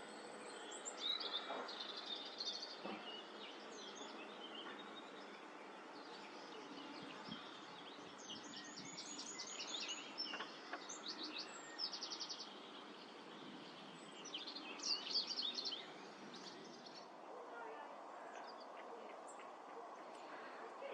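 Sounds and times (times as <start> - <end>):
outdoor background hiss: 0.0 - 20.9
songbirds chirping and trilling: 0.0 - 20.9.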